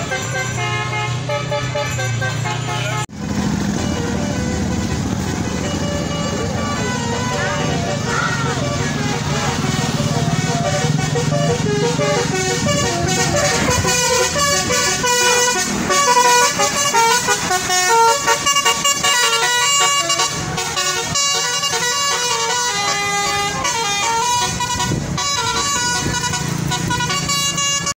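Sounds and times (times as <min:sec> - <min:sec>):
bus engines droning: 0:00.0 - 0:27.9
multi-tone bus horns tooting: 0:00.0 - 0:27.9.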